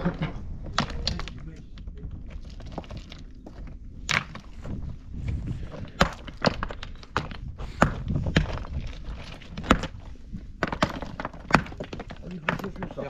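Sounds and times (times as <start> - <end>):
sharp knocks and thuds: 0.0 - 13.0.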